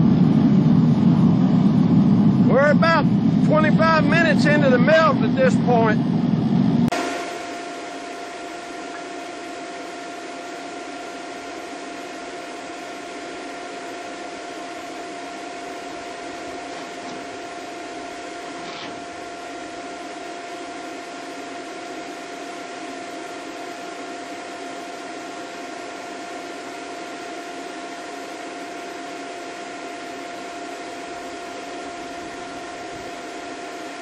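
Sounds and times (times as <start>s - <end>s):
constant whine: 0.0s - 34.0s
furnace burner and blower rushing: 0.0s - 34.0s.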